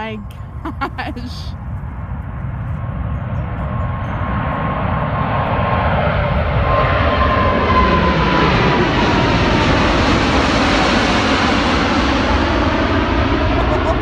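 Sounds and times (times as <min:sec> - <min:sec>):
jet engines roaring overhead: 0:01.3 - 0:14.0.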